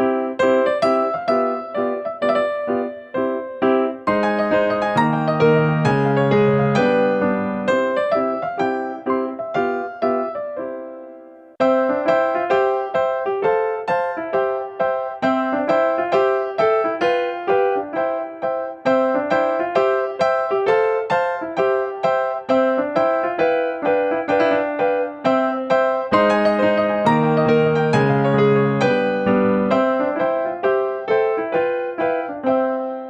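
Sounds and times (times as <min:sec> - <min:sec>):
electric piano chords: 0:00.0 - 0:33.0.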